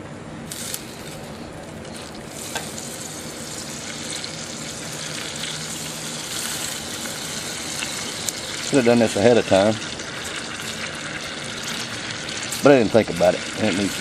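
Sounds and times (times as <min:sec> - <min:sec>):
butter sizzling in saucepan: 0:00.5 - 0:14.0.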